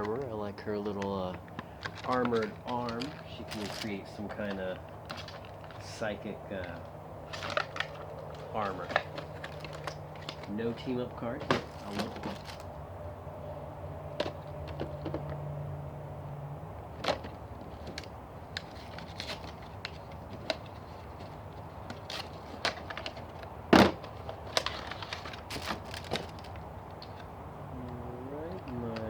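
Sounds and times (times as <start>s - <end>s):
plastic figures being handled: 0.0s - 12.8s, 14.1s - 15.4s, 16.9s - 27.3s.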